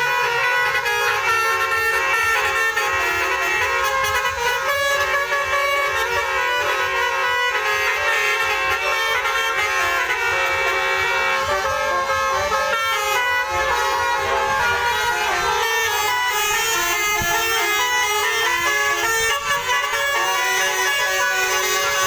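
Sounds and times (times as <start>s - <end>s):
bus musical horn playing tune: 0.0s - 22.0s.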